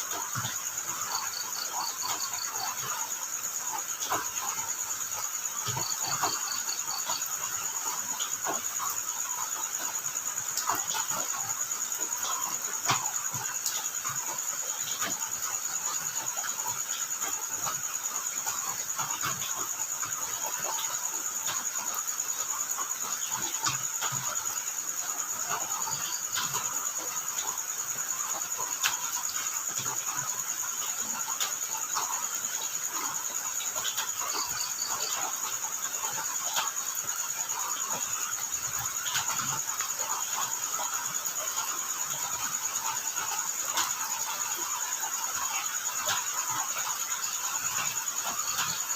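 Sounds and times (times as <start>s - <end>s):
crickets trilling: 0.0s - 48.9s.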